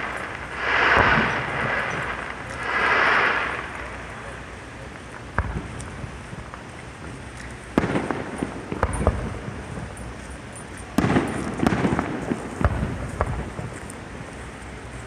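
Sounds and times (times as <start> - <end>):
fireworks bangs with crackling: 0.0 - 15.0.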